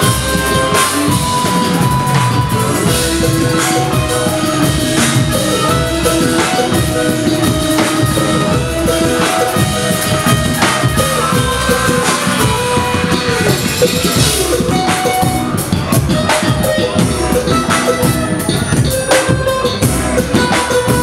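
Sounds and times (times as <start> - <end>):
drum beat: 0.0 - 21.0
live funk band: 0.0 - 21.0.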